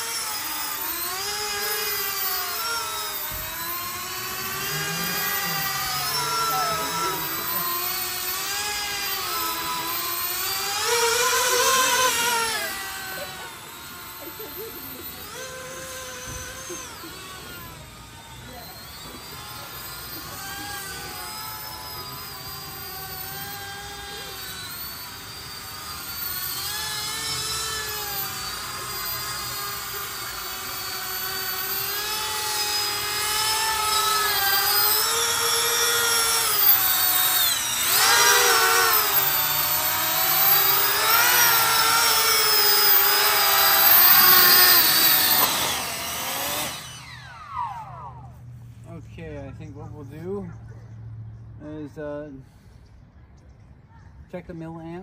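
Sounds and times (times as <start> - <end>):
drone fans whining: 0.0 - 52.1.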